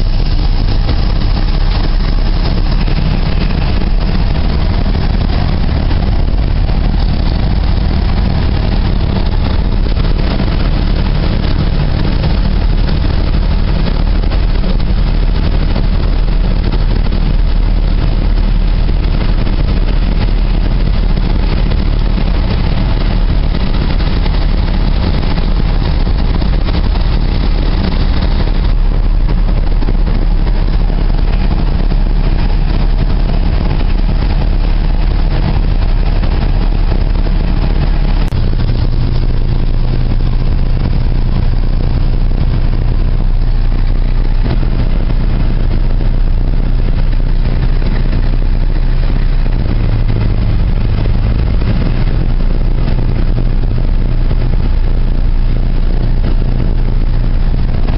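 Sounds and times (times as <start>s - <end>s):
loud vehicle engine drone: 0.0s - 57.9s.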